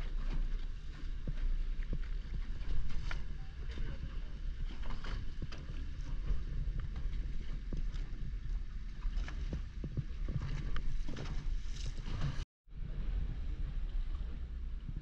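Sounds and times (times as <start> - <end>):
boat engine rumble: 0.0 - 15.0
wind on microphone: 0.0 - 15.0.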